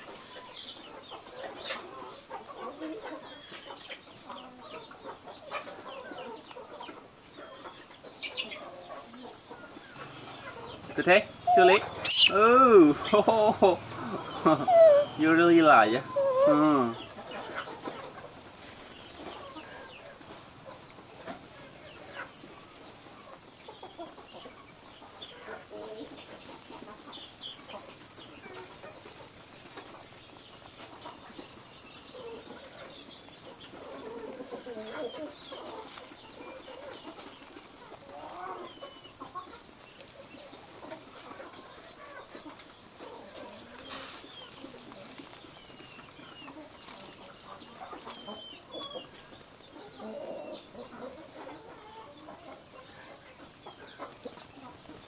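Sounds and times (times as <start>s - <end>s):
faint bird clucks: 0.0s - 30.1s, 30.8s - 55.0s.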